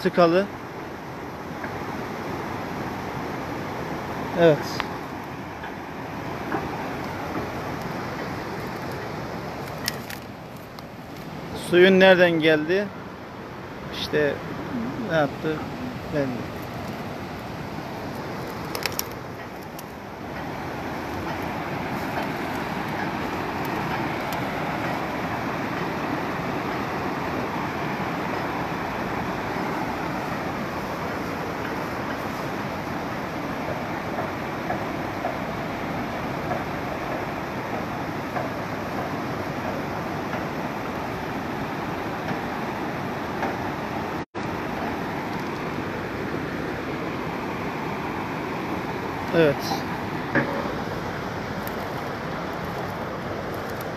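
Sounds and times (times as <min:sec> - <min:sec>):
floodwater rushing down a river: 0:00.0 - 0:53.9.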